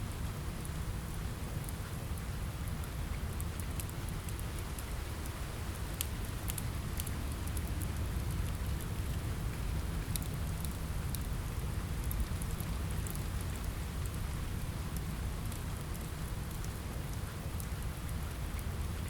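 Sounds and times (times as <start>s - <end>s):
steady rain: 0.0s - 19.0s
fireplace fire crackling: 0.4s - 19.0s.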